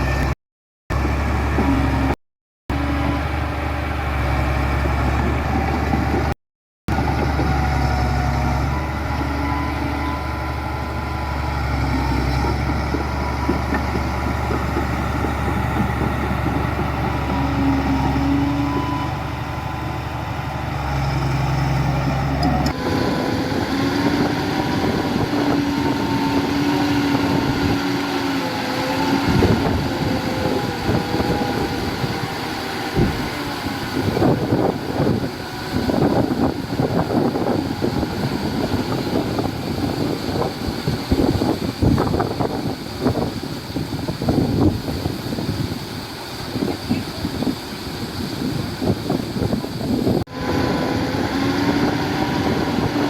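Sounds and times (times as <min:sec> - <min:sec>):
heavy machinery diesel engines: 0:00.0 - 0:53.0.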